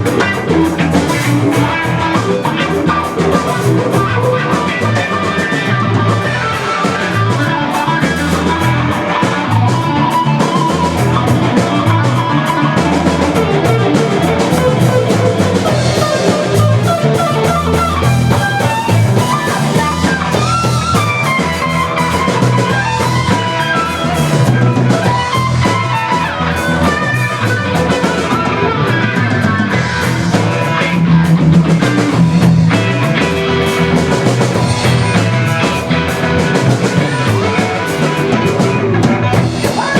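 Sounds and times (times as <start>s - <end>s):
bass: 0.0s - 39.9s
drums: 0.0s - 39.9s
electric guitar: 0.0s - 39.9s.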